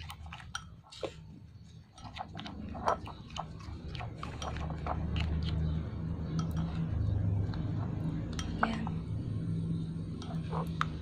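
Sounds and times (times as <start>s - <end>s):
slime stirred in a bowl: 0.0s - 9.0s, 9.7s - 11.0s
low hum: 1.3s - 11.0s.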